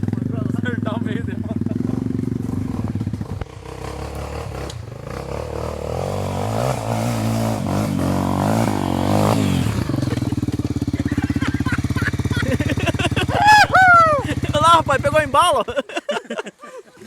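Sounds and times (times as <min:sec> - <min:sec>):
motorcycle engine under load: 0:00.0 - 0:15.8.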